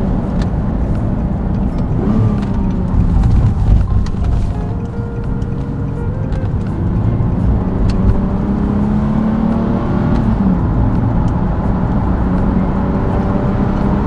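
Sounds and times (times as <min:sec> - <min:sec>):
car engine drone: 0:00.0 - 0:14.0
road rumble: 0:00.0 - 0:14.0.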